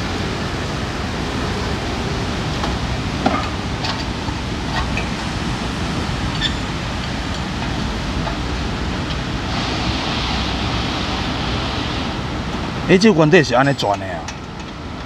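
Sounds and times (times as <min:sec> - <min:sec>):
steady rushing background noise: 0:00.0 - 0:15.0.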